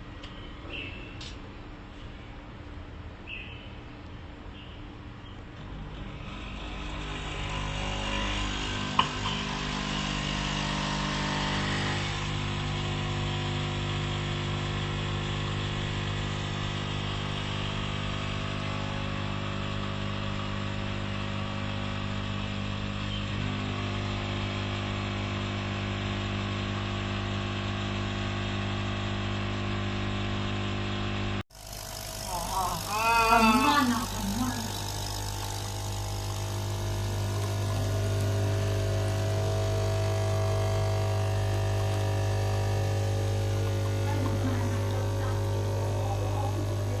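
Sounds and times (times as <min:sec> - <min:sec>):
coffee machine pump buzzing: 0:05.2 - 0:47.0.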